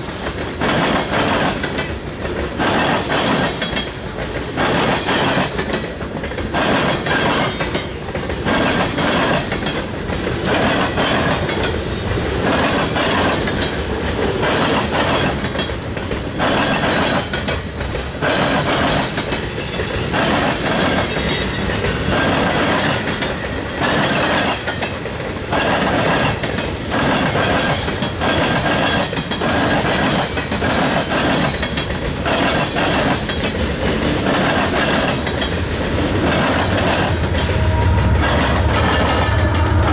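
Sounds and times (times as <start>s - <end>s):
train rumble: 0.0s - 39.9s
train wheels clacking over rail joints: 0.0s - 39.9s.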